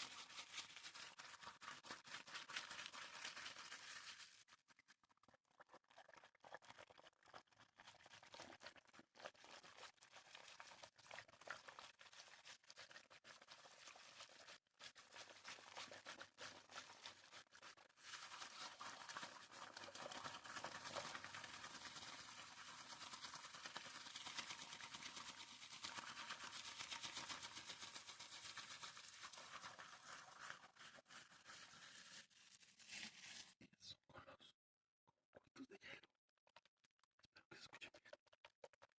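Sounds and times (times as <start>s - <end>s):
crackly water noises: 0.0s - 33.4s, 35.3s - 38.9s.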